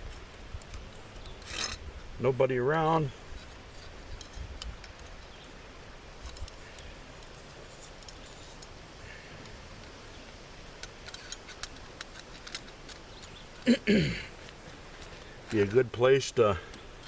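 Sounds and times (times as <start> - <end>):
low outdoor hiss: 0.0 - 17.0.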